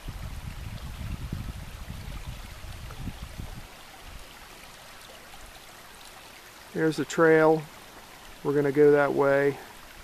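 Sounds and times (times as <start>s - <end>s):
creek running over rocks: 0.0s - 10.0s.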